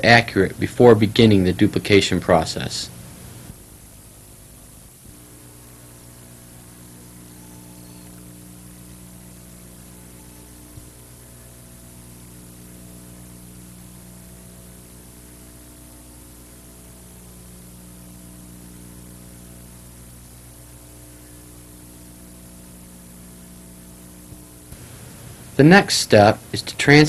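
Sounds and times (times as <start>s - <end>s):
constant hiss: 0.0s - 27.0s
electrical mains hum: 0.0s - 27.0s.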